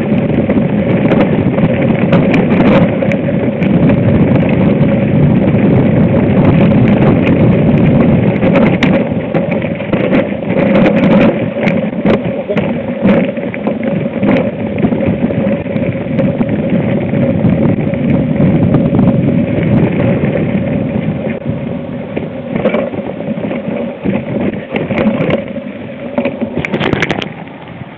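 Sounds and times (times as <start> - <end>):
off-road vehicle engine running: 0.0 - 27.9.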